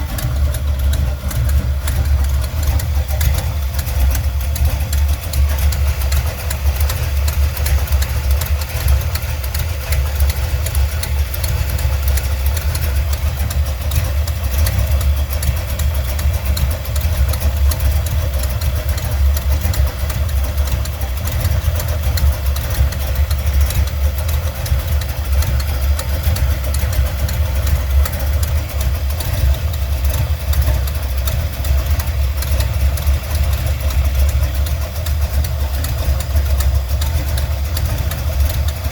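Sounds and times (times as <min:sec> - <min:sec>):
car engine idling: 0:00.0 - 0:38.9
fast even engine ticking: 0:00.0 - 0:38.9.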